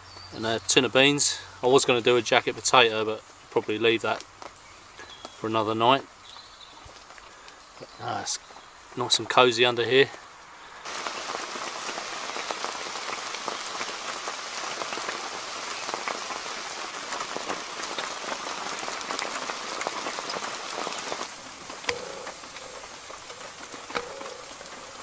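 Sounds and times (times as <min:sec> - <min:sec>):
rain drops tapping: 0:00.0 - 0:25.0.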